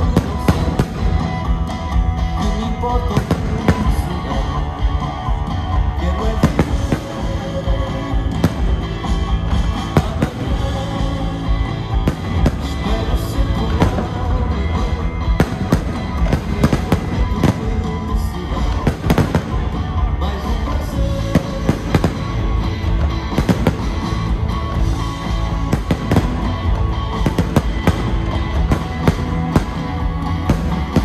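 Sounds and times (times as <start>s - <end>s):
fireworks bursting: 0.0s - 31.0s
loud recorded music: 0.0s - 31.0s.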